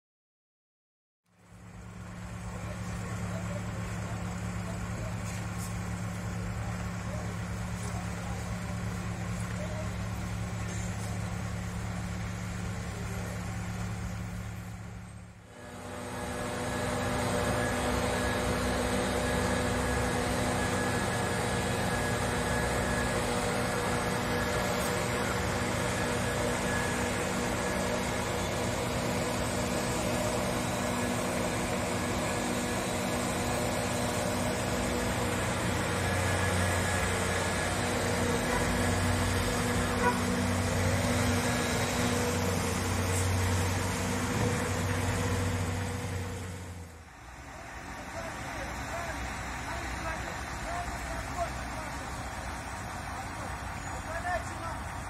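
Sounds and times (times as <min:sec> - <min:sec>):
diesel engines humming: 0:01.3 - 0:55.0.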